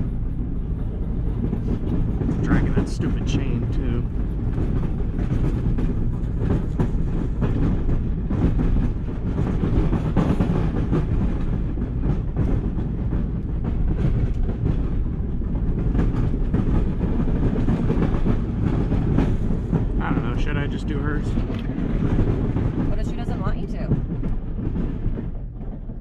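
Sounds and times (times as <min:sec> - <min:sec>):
snowplow engine rumbling: 0:00.0 - 0:26.0.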